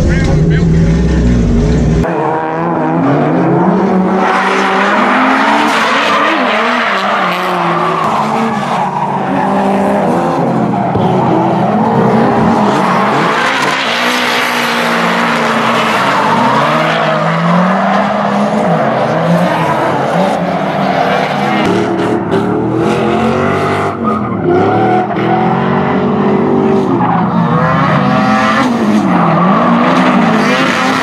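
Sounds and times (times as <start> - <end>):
car engines revving hard: 0.0 - 31.0.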